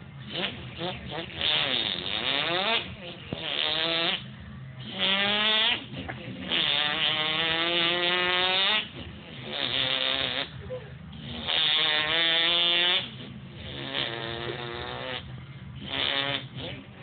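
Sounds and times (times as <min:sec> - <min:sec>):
man imitating revving car engine: 0:00.2 - 0:17.0.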